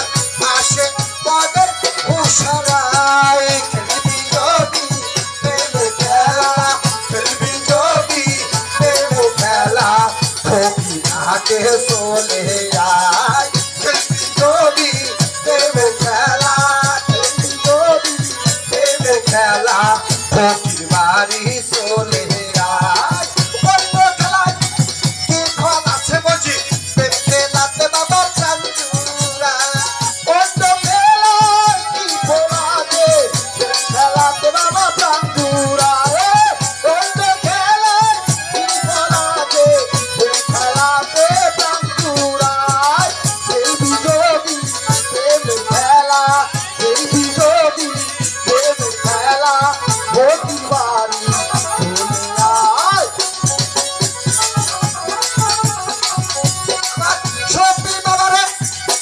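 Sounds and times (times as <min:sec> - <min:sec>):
drum beat: 0:00.0 - 0:59.0.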